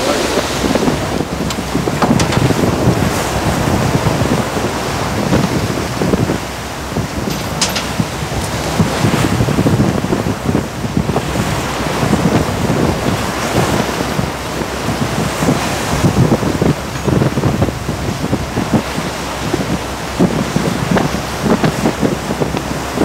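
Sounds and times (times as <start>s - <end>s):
rush of sea and wind: 0.0s - 23.0s
wind buffeting microphone: 0.0s - 23.0s.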